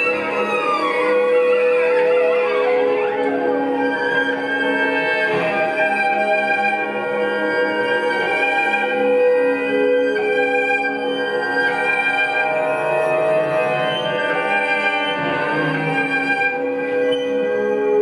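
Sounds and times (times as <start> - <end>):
small ensemble playing held notes: 0.0 - 18.0.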